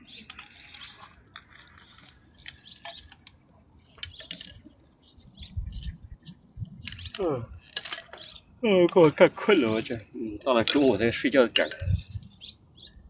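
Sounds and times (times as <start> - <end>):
clicks and rustles of handling: 0.0 - 12.5.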